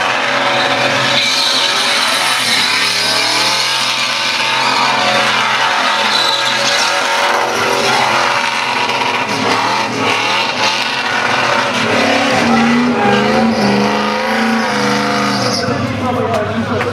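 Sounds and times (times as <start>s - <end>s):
car engine revving hard: 0.0s - 15.8s
tyres squealing: 0.0s - 15.8s.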